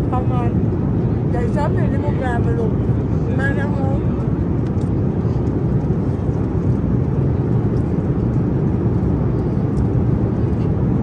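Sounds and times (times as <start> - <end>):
vehicle rumble inside cabin: 0.0 - 11.0.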